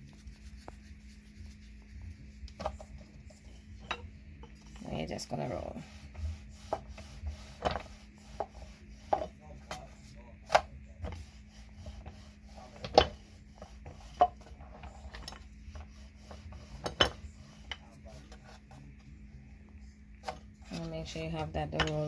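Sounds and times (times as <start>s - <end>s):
rolling pin rolling over dough: 0.0s - 22.0s.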